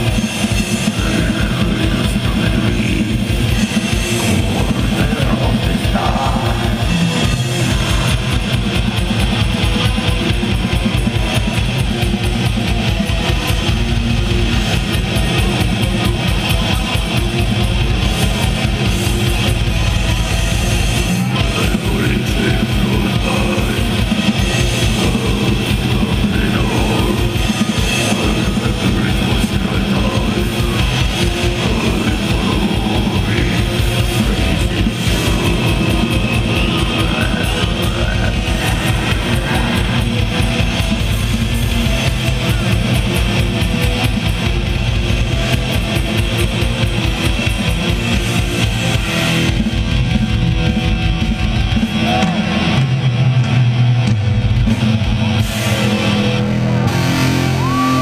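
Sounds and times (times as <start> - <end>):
distorted electric guitars: 0.0 - 58.0.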